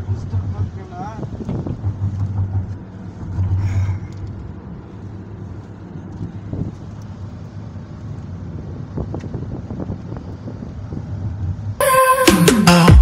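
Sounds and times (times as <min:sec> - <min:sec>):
car road noise drone: 0:00.0 - 0:13.0.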